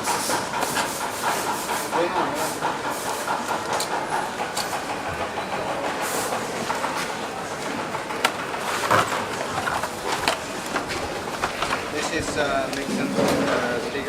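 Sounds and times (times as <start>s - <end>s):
mechanical din and hiss: 0.0s - 14.0s.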